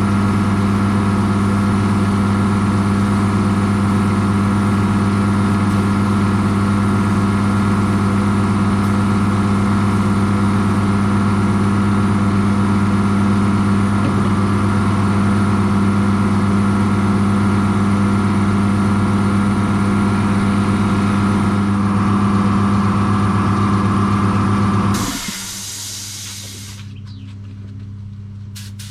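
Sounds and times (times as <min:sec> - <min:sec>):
motor humming steadily: 0:00.0 - 0:28.9.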